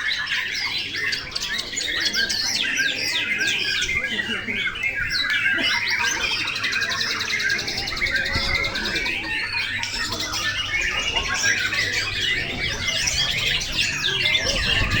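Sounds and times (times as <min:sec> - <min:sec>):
birds singing in chorus: 0:00.0 - 0:15.0
fast bird trill: 0:00.0 - 0:15.0.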